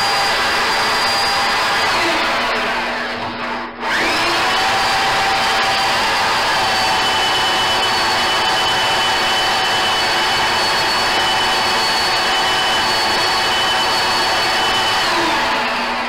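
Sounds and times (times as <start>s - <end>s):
cordless drill boring into steel: 0.0s - 2.7s, 3.8s - 16.0s.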